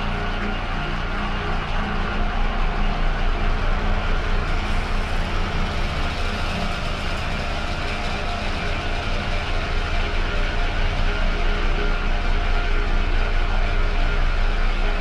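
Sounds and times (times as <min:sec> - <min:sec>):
dark ambient drone: 0:00.0 - 0:15.0.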